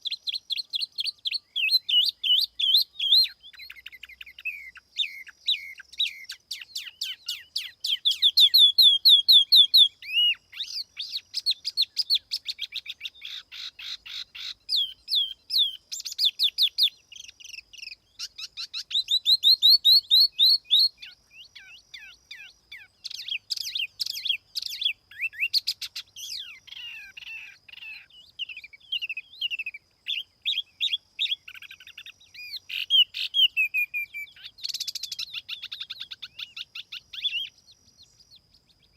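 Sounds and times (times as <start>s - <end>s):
songbird singing whistles and trills: 0.0s - 38.9s.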